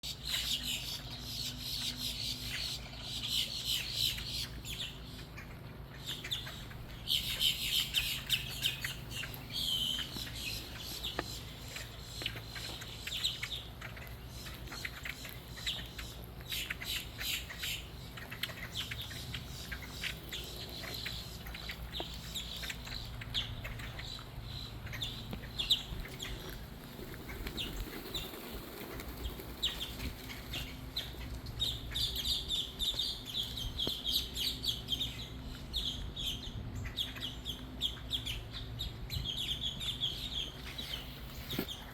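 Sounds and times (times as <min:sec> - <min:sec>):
birds squawking and chattering: 0:00.0 - 0:41.9
steady low hum: 0:00.0 - 0:41.9.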